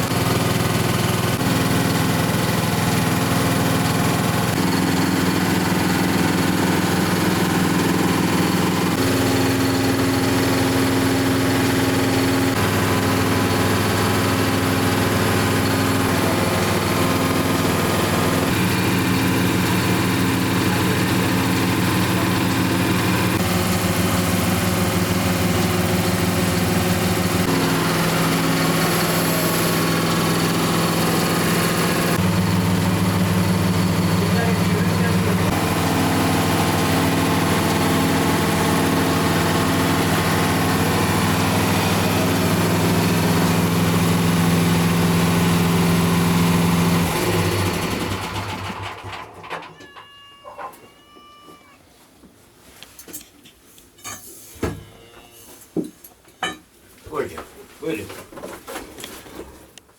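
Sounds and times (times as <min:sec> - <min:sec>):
engine idling: 0:00.0 - 0:49.4.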